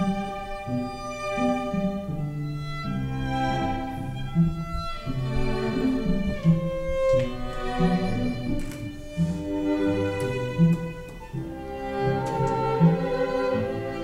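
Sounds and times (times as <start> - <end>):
slow string music: 0.0 - 14.0.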